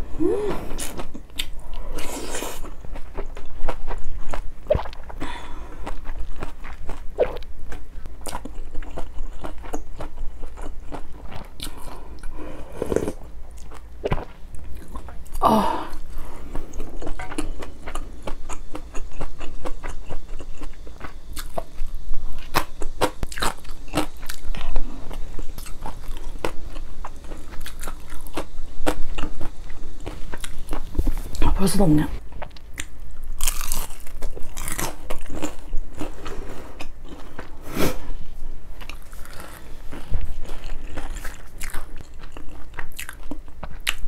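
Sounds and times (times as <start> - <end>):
close-miked chewing and biting: 0.8 - 15.4, 16.5 - 31.4, 32.3 - 37.6, 38.8 - 44.0.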